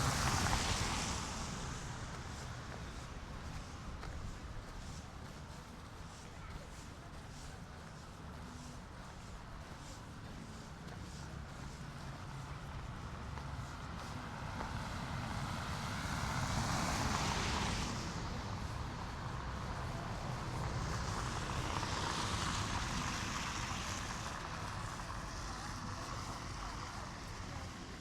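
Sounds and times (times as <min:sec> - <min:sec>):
low city rumble: 0:00.0 - 0:28.0
vehicles passing: 0:00.0 - 0:28.0.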